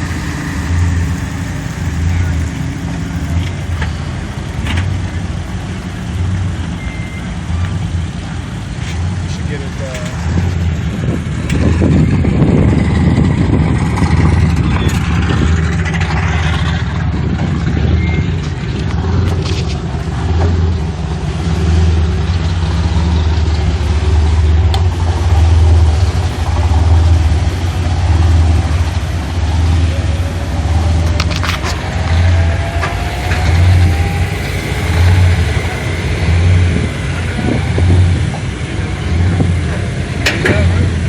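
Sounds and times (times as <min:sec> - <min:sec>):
engine running at low speed: 0:00.0 - 0:41.0.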